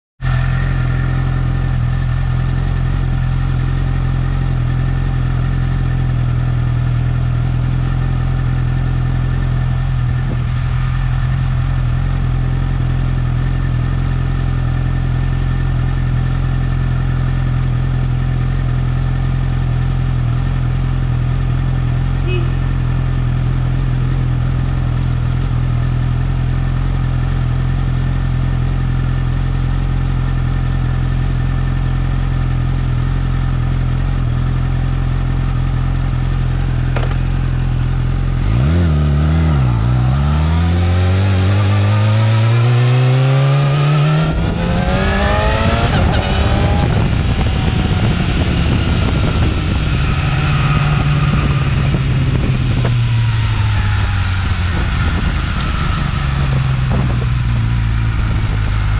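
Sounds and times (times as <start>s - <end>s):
motorcycle engine idling and revving: 0.2s - 58.9s.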